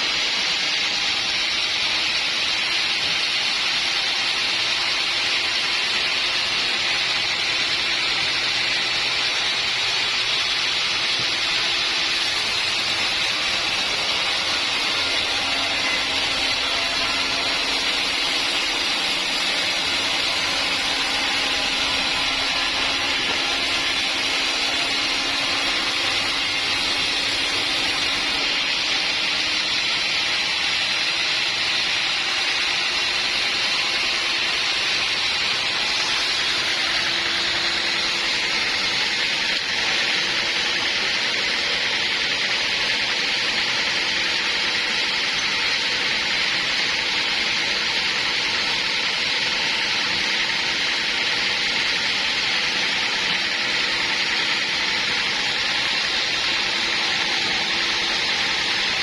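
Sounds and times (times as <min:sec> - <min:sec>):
saw blade cutting log: 0:00.0 - 0:59.0.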